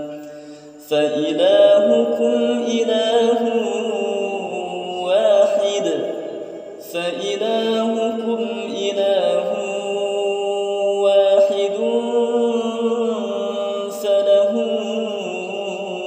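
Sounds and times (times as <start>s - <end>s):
man chanting melodic recitation: 0.8s - 16.0s.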